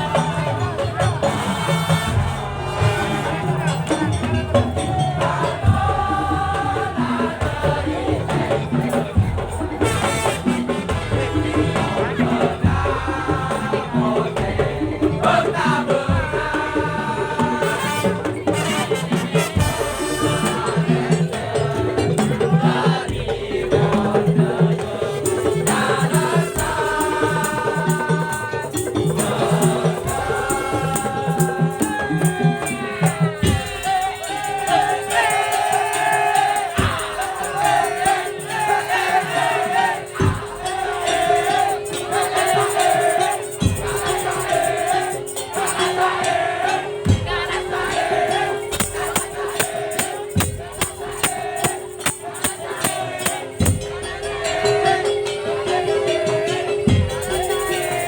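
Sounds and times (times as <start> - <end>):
percussion ensemble beat: 0.0 - 58.0.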